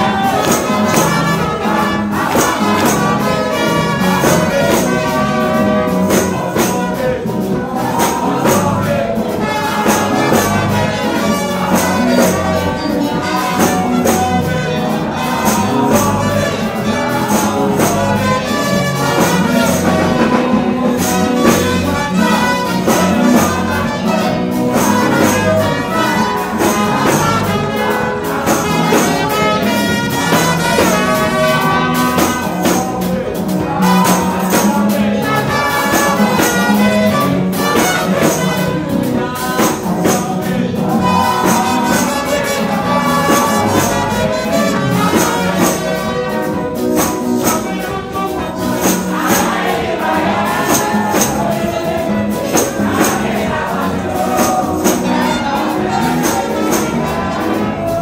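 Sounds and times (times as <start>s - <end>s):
brass: 0.0s - 58.0s
people singing: 0.0s - 58.0s
tambourine beat: 0.0s - 58.0s.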